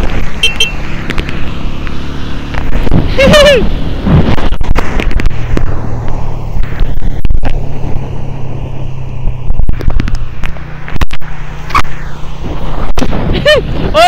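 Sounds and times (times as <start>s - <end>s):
motorcycle engine running: 0.0s - 11.8s
wind rushing on microphone: 0.0s - 14.0s.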